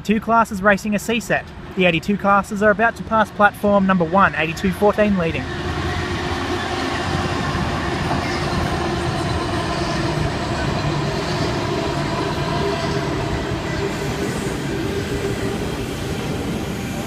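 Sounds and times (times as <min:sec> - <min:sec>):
diesel locomotive engine drone: 0:00.0 - 0:17.0
train wheels on rails: 0:02.5 - 0:17.0.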